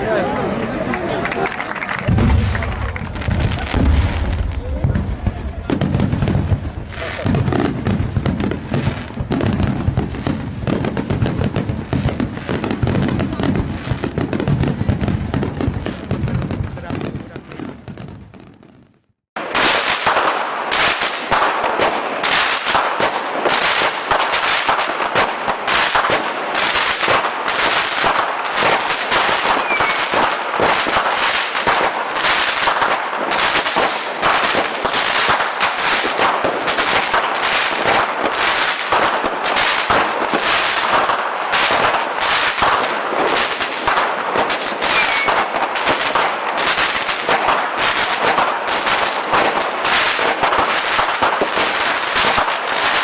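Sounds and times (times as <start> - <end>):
firecrackers and fireworks banging: 0.0 - 53.0.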